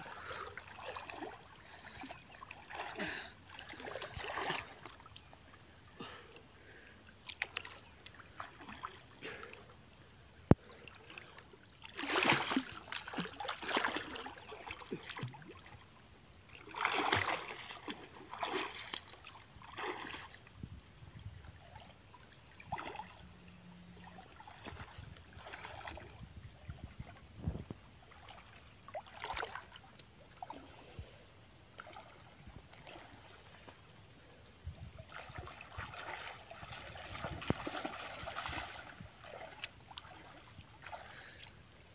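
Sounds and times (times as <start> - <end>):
water splashing and sloshing: 0.0 - 41.9.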